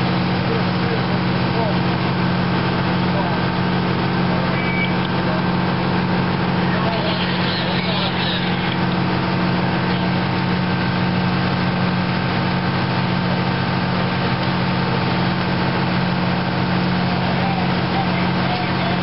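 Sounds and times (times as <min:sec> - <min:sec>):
truck engine humming: 0:00.0 - 0:19.0.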